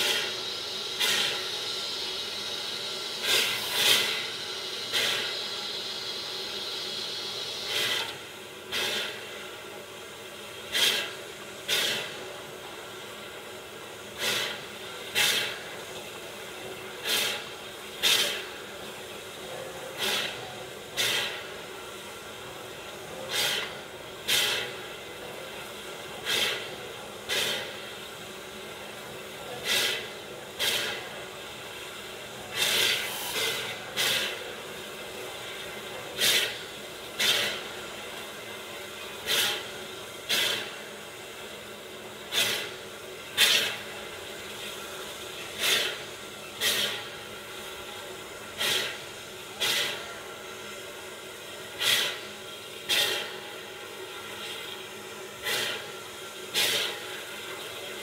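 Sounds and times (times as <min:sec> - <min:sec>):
sharp steam exhaust puffs: 0:00.0 - 0:58.0
steady steam hiss: 0:00.0 - 0:58.0.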